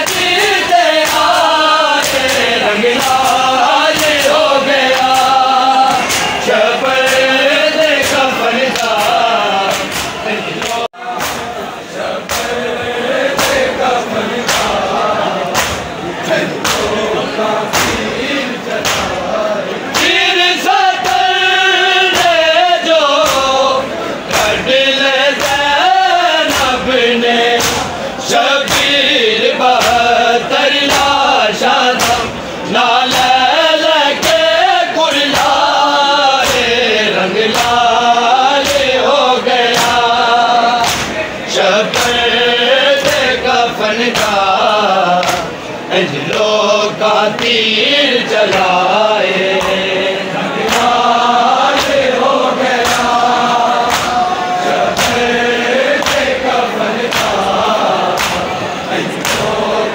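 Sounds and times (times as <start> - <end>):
men chanting in unison: 0.0 - 59.9
rhythmic chest-beating: 0.0 - 59.9.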